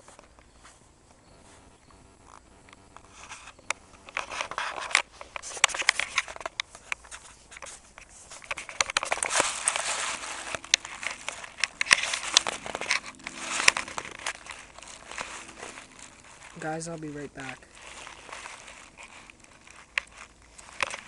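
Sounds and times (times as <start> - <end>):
rustling and crackling: 0.0 - 21.0.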